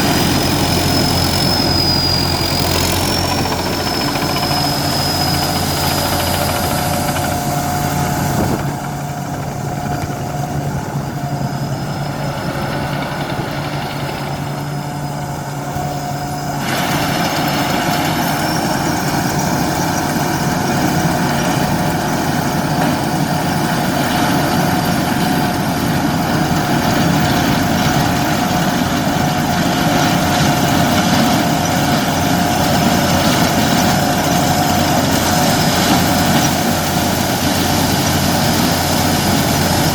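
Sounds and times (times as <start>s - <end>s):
corn sheller engine hum: 0.0s - 39.9s
thin steady whine: 0.0s - 39.9s.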